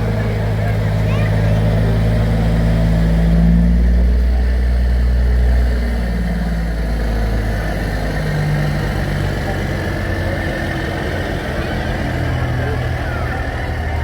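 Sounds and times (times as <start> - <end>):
large vehicle engine idling: 0.0 - 14.0.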